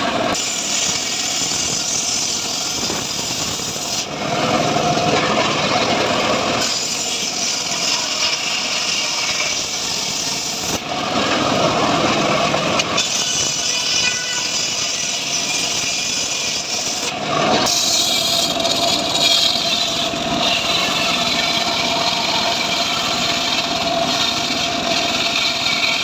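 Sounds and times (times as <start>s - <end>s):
engine-driven saw cutting wood: 0.0s - 26.0s.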